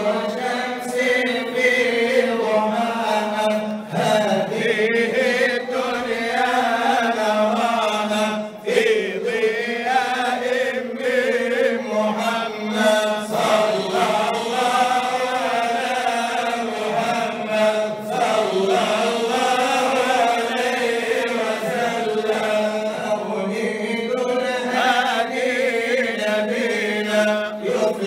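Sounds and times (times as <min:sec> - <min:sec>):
man chanting into microphone: 0:00.0 - 0:28.0.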